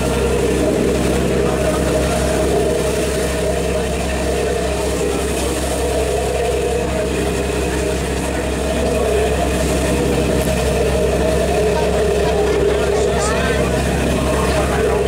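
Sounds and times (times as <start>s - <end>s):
ferry diesel engine droning: 0.0s - 15.0s.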